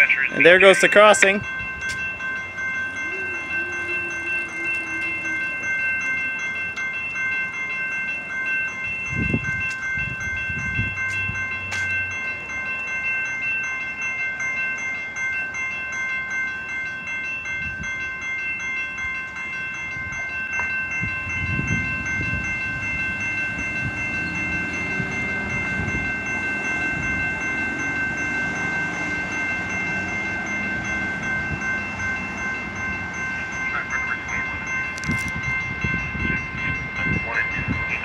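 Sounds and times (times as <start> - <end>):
railroad crossing bells ringing: 0.0 - 38.0.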